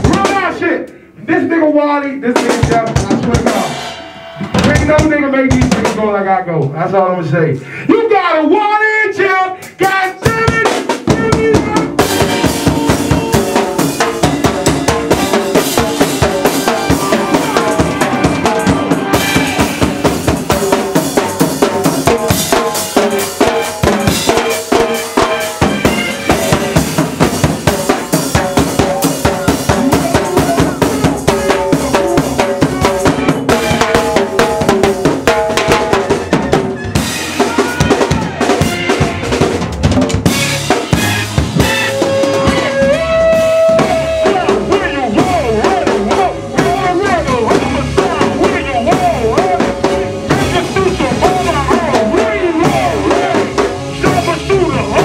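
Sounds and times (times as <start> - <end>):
drum kit groove: 0.0 - 7.0, 7.9 - 55.0.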